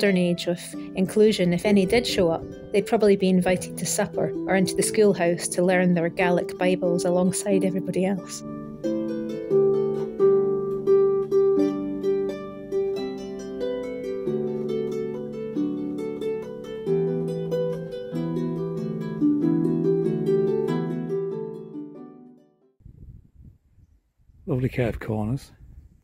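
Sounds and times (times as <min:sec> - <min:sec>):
harp-like plucked string music: 0:00.0 - 0:22.7.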